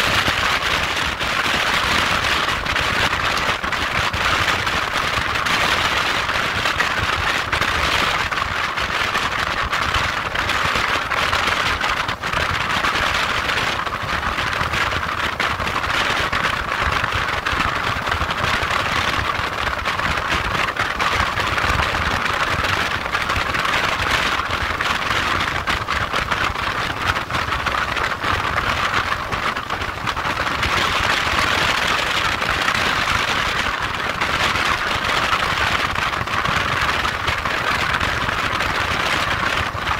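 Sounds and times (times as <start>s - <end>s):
wind rush over microphone: 0.0s - 39.9s.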